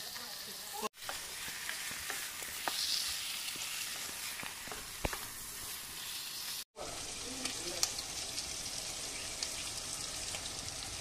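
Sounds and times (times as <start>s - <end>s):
meat and potatoes sizzling: 0.0s - 11.0s.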